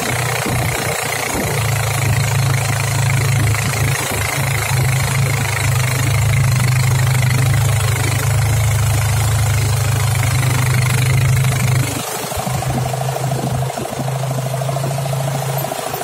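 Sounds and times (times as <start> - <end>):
motorboat engine humming: 0.0 - 16.0.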